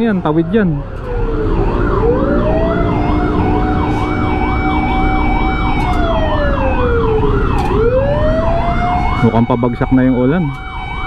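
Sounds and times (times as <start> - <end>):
siren wail: 0.0 - 11.0
siren yelp: 0.0 - 11.0
traffic and engine rumble: 0.0 - 11.0.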